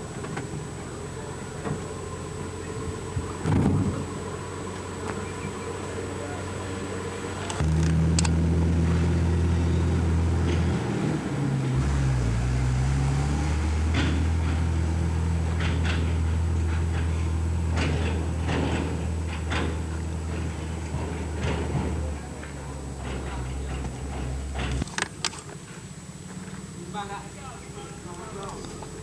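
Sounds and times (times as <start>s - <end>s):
low motor hum: 0.0s - 29.0s.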